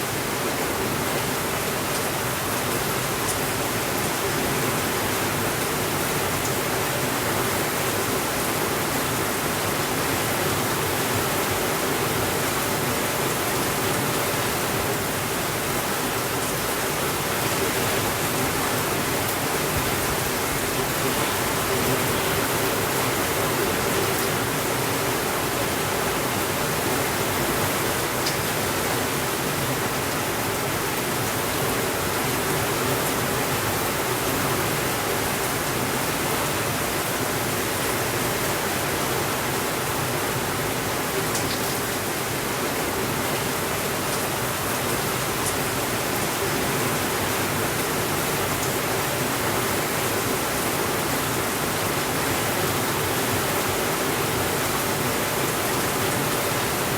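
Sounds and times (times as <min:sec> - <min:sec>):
steady rainfall hiss: 0:00.0 - 0:56.9.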